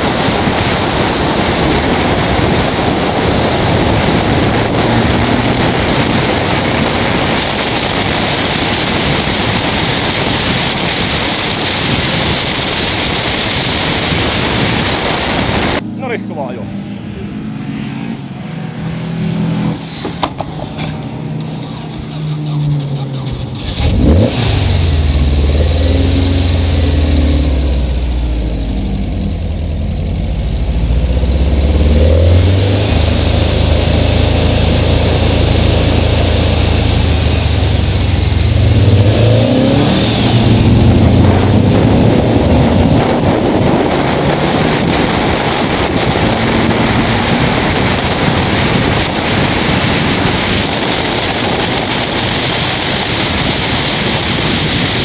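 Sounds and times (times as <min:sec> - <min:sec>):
race car engine revving: 0:00.0 - 0:55.0
road and wind noise: 0:00.0 - 0:55.0.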